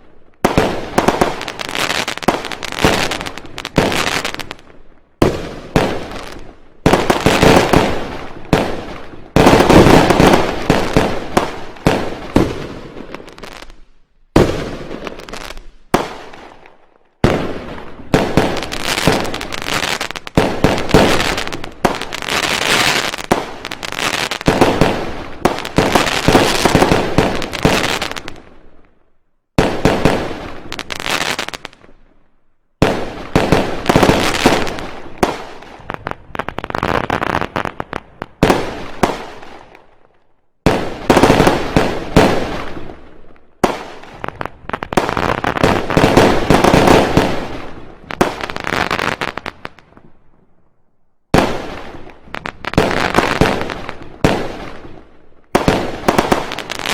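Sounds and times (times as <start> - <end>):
fireworks banging and crackling: 0.0 - 28.9, 29.6 - 32.2, 32.8 - 50.2, 51.3 - 56.9.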